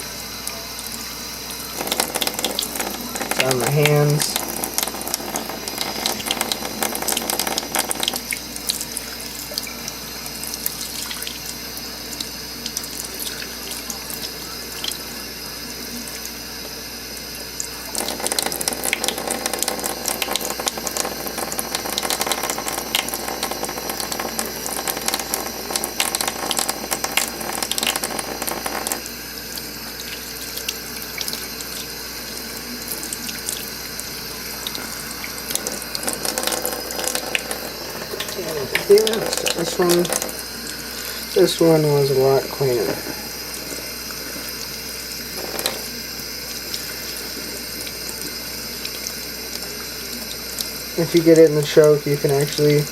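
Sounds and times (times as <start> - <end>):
tap water running into sink: 0.0 - 52.9.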